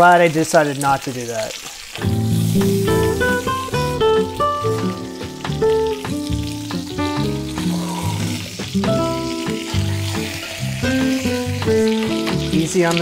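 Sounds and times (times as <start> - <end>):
chicken sizzling in butter: 0.0 - 13.0
background music: 2.0 - 13.0.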